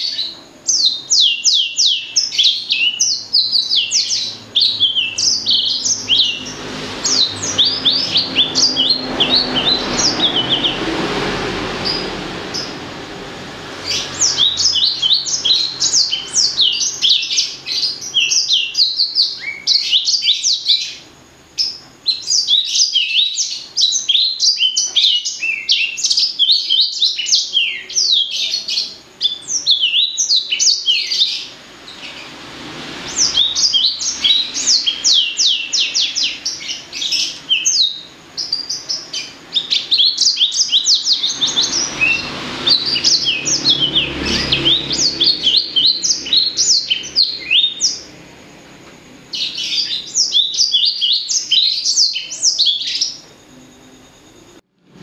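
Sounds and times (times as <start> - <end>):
finch singing high chirps: 0.0 - 10.9, 11.8 - 12.8, 13.8 - 32.4, 33.0 - 48.2, 49.3 - 54.3.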